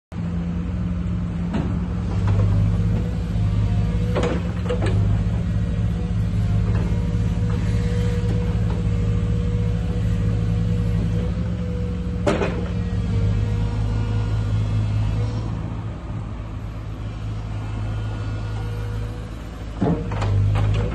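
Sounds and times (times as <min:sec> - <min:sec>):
excavator diesel engine: 0:00.1 - 0:20.9.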